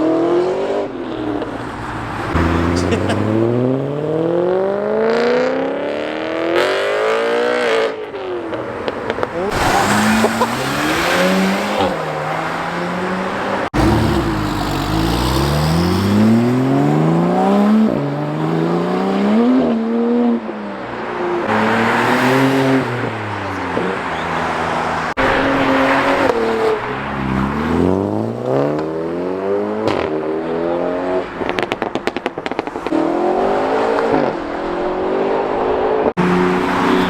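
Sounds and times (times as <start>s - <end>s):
cars accelerating hard: 0.0s - 37.0s.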